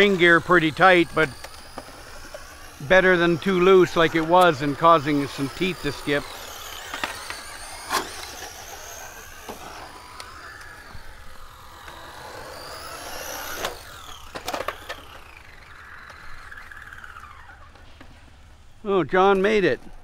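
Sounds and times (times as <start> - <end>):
electric motor whining: 0.0 - 19.4.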